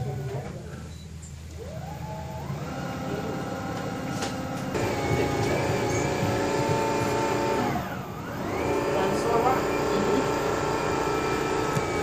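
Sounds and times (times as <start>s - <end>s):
electric boat motor whining: 1.5s - 12.0s.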